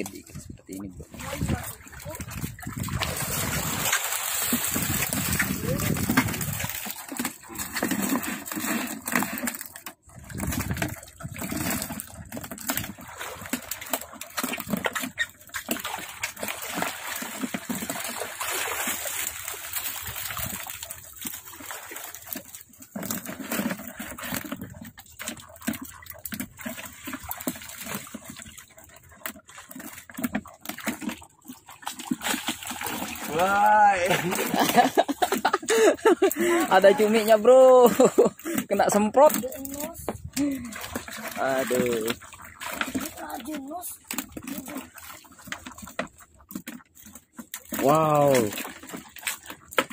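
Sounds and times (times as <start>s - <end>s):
shallow water splashing: 0.0s - 49.9s.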